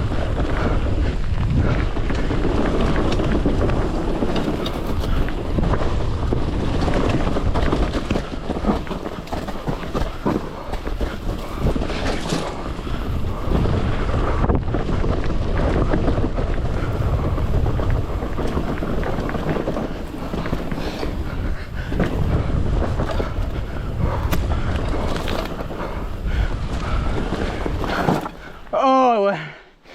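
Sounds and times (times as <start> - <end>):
bike rattling clicks: 0.0 - 28.7
wind buffeting microphone: 0.0 - 28.8
tyres rumbling on dirt: 0.0 - 29.4.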